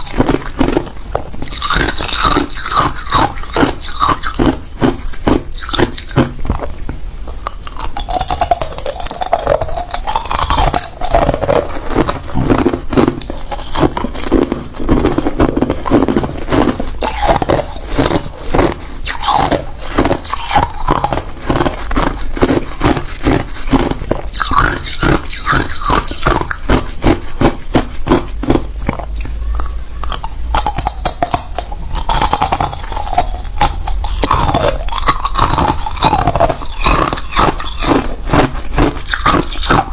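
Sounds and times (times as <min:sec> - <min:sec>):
ice cubes crunching in teeth: 0:00.0 - 0:39.9.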